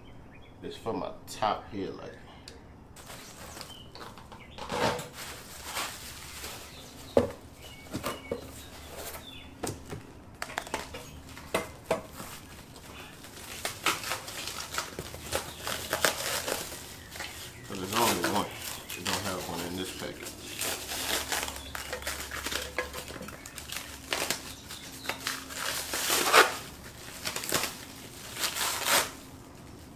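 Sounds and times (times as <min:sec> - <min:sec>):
packaging rustling and clicking: 0:03.0 - 0:29.8.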